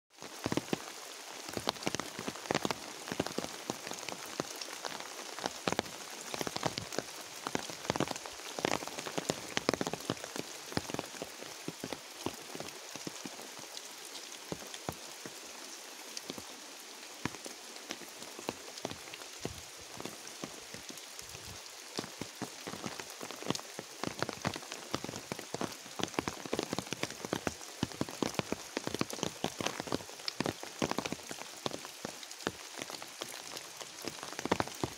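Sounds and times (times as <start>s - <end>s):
raindrops hitting: 0.1s - 34.9s
steady rain hiss: 0.1s - 34.9s.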